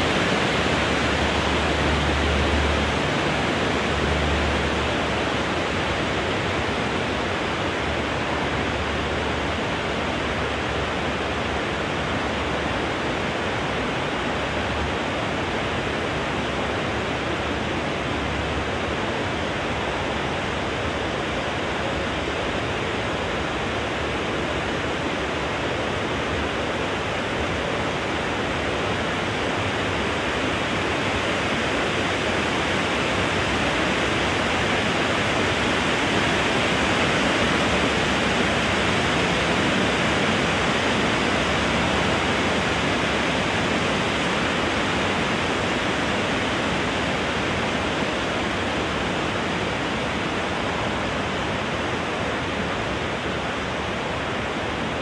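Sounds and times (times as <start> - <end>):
wind blowing through trees: 0.0 - 55.0.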